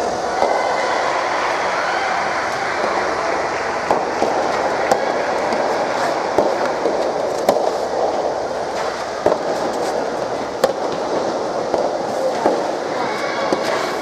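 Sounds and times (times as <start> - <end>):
rackets striking tennis balls: 0.0 - 1.8, 2.4 - 14.0
hall background hubbub: 0.0 - 14.0.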